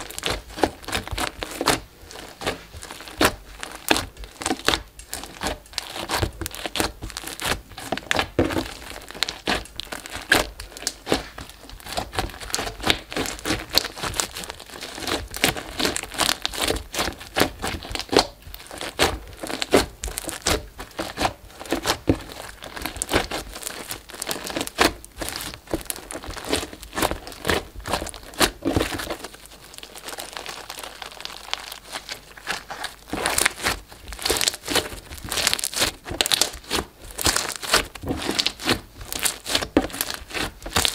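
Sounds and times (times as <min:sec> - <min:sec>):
slime popping and crackling: 0:00.0 - 0:40.9.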